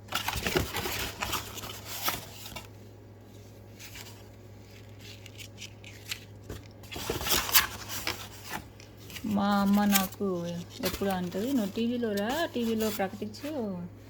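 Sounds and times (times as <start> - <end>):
paper and packaging rustling: 0.0 - 13.8
low electrical hum: 0.0 - 14.0.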